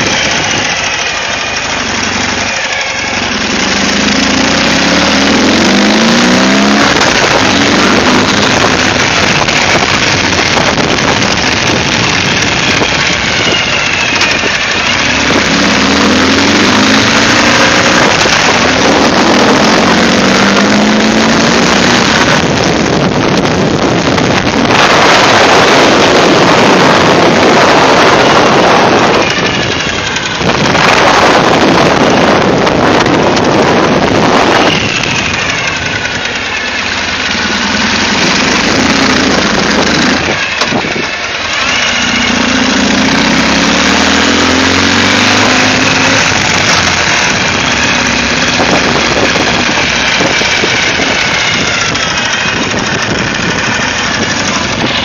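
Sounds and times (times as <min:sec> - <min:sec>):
motorcycle engine running: 0:00.0 - 0:55.0
wind rushing over microphone: 0:03.3 - 0:55.0.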